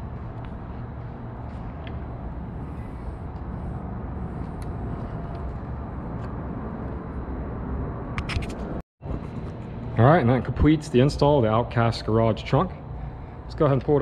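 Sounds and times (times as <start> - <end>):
parking garage rumble: 0.0 - 14.0.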